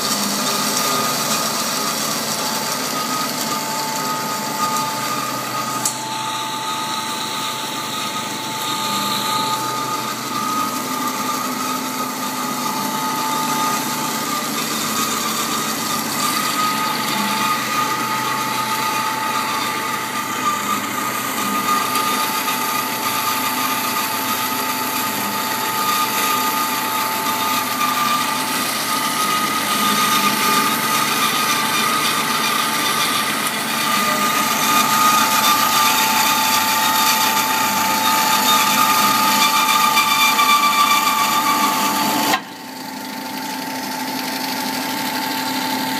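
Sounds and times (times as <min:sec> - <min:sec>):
bandsaw cutting metal: 0:00.0 - 0:45.9.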